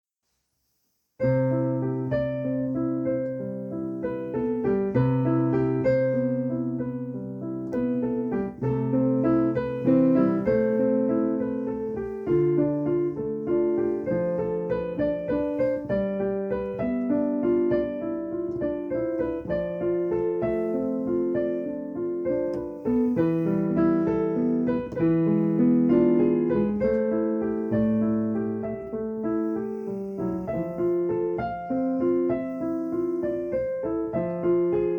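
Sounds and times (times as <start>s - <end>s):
solo piano music: 1.2s - 34.9s.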